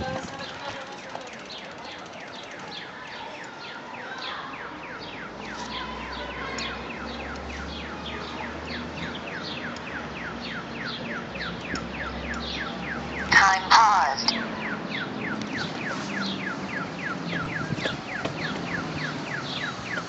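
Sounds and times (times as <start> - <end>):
crossing signal chirping: 3.4 - 20.0.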